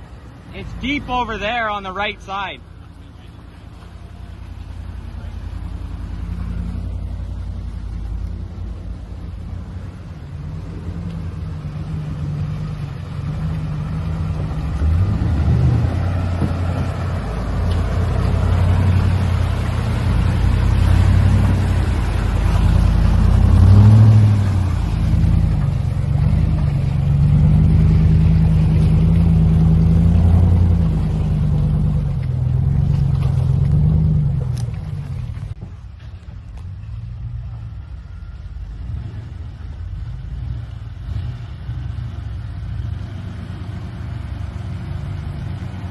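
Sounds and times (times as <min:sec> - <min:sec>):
water sloshing around tyres: 0:00.0 - 0:37.7
truck engine revving under load: 0:02.7 - 0:35.6, 0:38.5 - 0:45.9.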